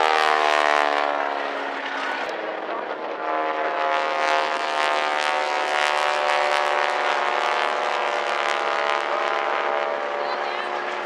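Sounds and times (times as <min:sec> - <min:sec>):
biplane engine droning: 0:00.0 - 0:11.0.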